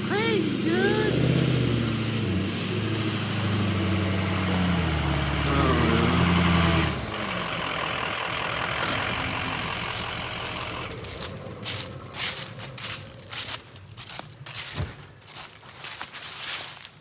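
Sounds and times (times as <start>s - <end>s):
engine revving under load: 0.0s - 14.9s.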